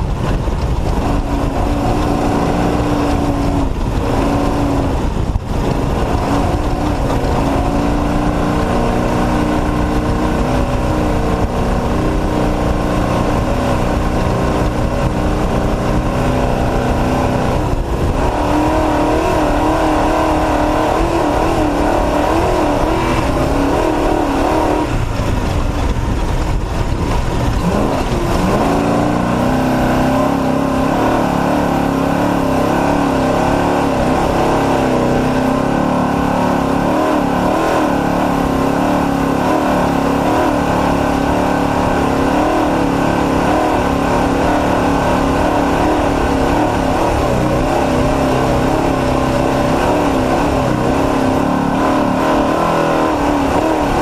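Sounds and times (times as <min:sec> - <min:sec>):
race truck engine running hard: 0:00.0 - 0:54.0
steady rush of noise: 0:00.0 - 0:54.0.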